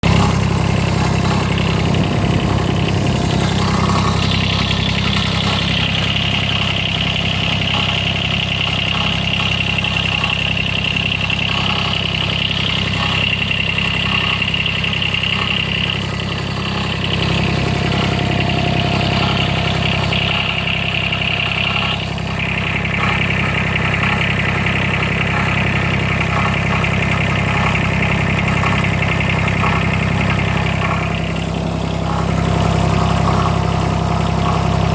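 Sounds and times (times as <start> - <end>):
diesel engine idling: 0.0 - 34.9
high grinding tone: 0.0 - 34.9
rattling and grinding noise: 0.0 - 34.9.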